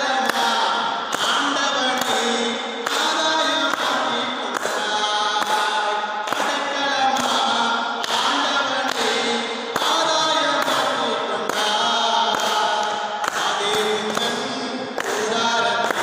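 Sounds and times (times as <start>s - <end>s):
man singing a hymn: 0.0s - 16.0s.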